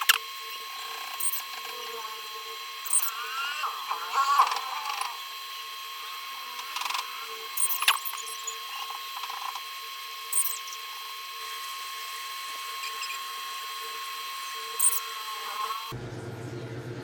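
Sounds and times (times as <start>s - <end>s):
faint electrical whine: 0.0s - 16.6s.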